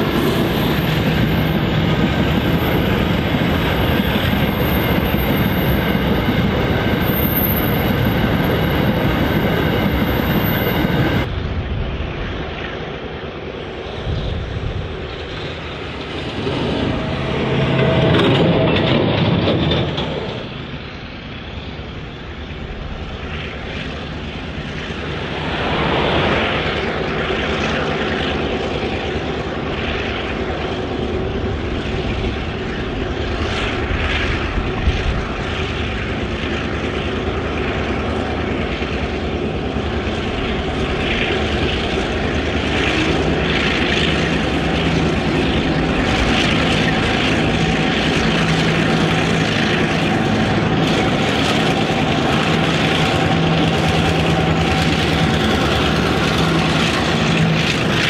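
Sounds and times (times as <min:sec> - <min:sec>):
diesel locomotive engine drone: 0:00.0 - 0:58.0
train rumble: 0:00.0 - 0:58.0.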